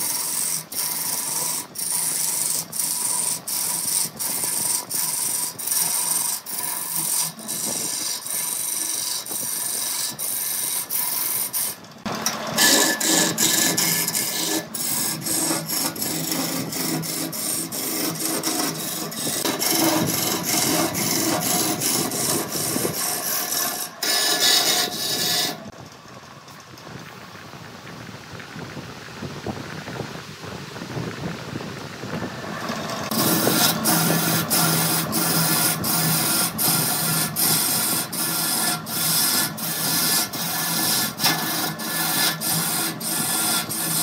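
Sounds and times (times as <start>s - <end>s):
lathe tool scraping wood: 0.0s - 25.8s, 32.3s - 44.0s.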